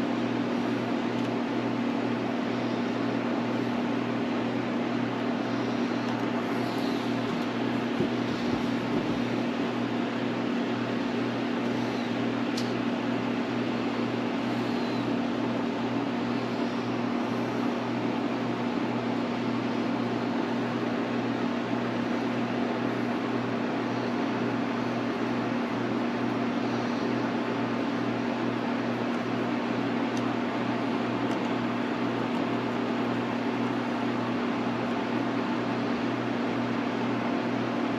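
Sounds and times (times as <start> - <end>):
steady machine hum: 0.0 - 37.9.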